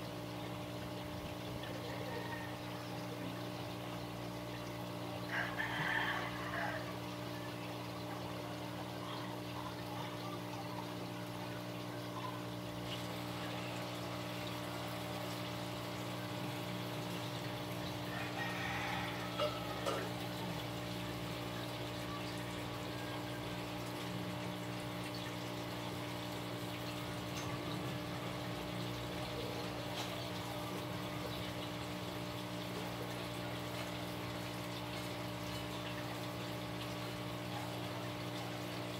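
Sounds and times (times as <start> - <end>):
electric water pump humming: 0.0 - 38.9
water trickling: 0.0 - 38.9.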